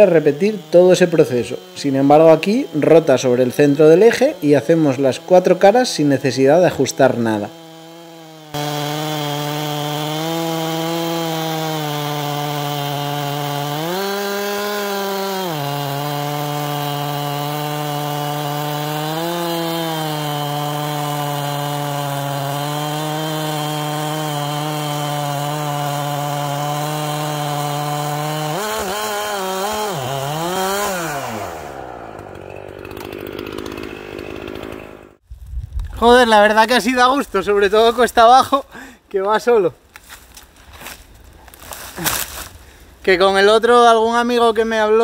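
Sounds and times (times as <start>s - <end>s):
chainsaw ripping a log: 0.0s - 35.2s, 39.9s - 42.8s.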